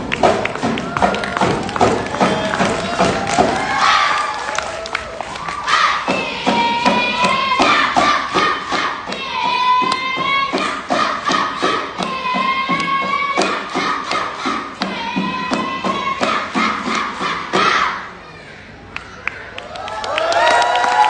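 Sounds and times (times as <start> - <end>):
rhythmic clapping and body slapping: 0.0 - 17.9.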